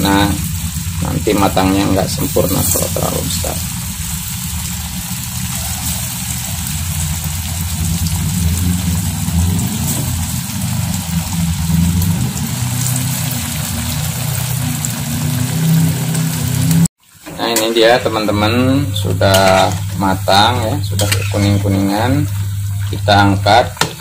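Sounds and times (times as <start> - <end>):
low motor-like hum: 0.0 - 16.9, 18.2 - 24.0
dough sizzling in hot oil: 0.0 - 17.3, 18.6 - 24.0.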